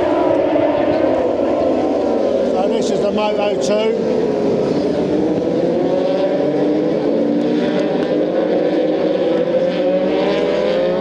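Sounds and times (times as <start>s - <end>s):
race motorcycles passing: 0.0s - 11.0s.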